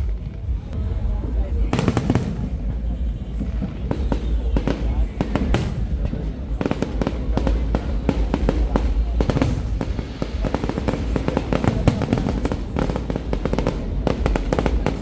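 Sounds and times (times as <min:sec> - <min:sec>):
fireworks bangs and crackles: 0:00.0 - 0:15.0
low booming rumble: 0:00.0 - 0:15.0
music: 0:00.0 - 0:15.0.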